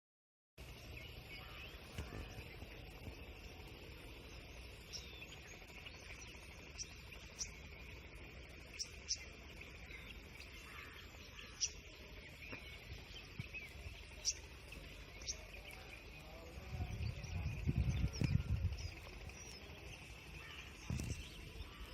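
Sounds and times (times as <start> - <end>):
bird chirps: 0.6 - 21.9
insect drone: 0.6 - 21.9
low rumble: 0.6 - 21.9.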